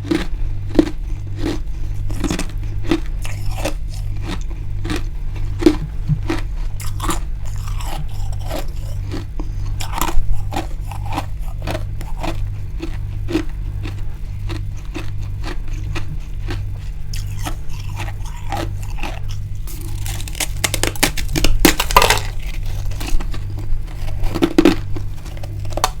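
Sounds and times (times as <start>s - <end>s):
person chewing crunchy frost: 0.0s - 26.0s.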